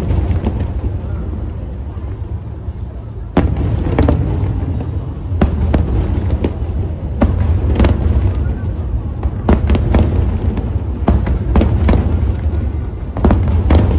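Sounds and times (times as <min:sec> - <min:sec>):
continuous low rumble: 0:00.0 - 0:13.9.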